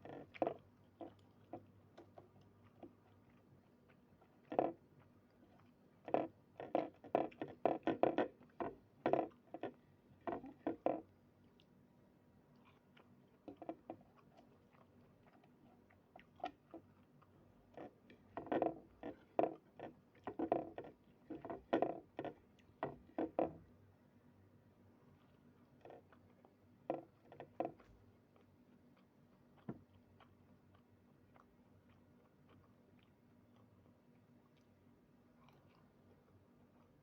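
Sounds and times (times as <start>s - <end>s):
person chewing food: 0.0s - 23.7s, 24.9s - 37.0s.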